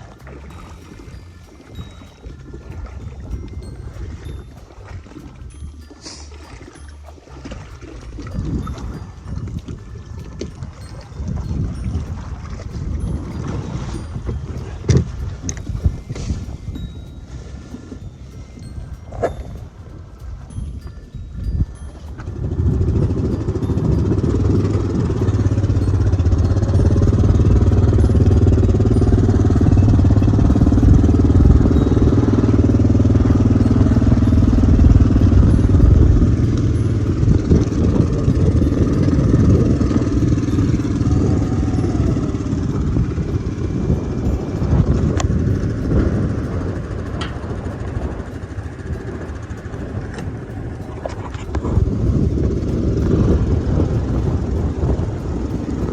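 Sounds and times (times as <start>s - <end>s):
outboard boat motor running: 0.0s - 55.9s.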